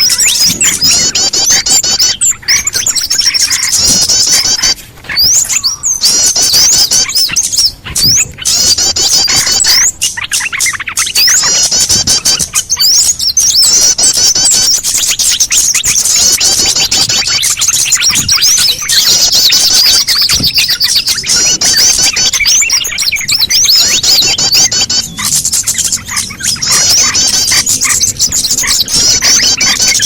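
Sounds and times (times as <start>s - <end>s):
songbirds chirping chorus: 0.0s - 30.0s.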